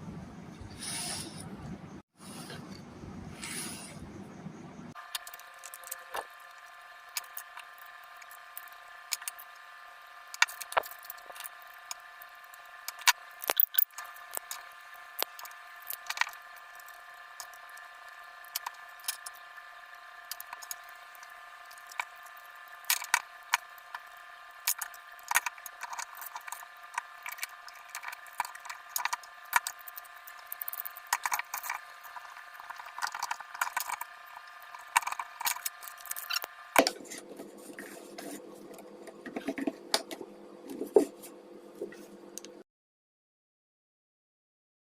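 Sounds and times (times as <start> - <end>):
high tonal hum: 0.0 - 42.6.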